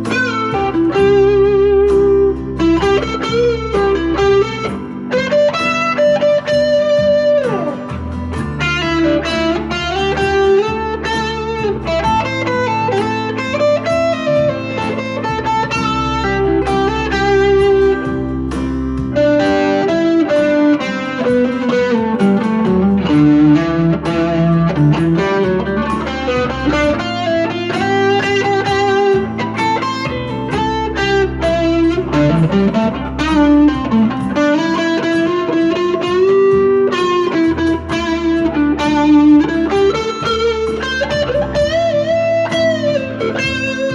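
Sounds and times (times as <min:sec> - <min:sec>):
backing track of chords: 0:00.0 - 0:43.9
overdriven electric guitar lead: 0:00.0 - 0:43.9.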